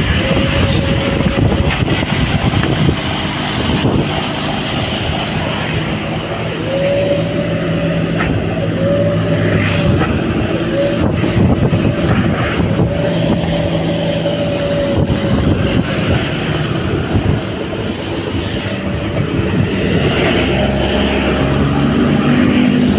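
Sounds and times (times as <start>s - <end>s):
engine whine: 0.0s - 22.9s
road and wind noise: 0.0s - 22.9s
vehicle engine running: 0.0s - 22.9s.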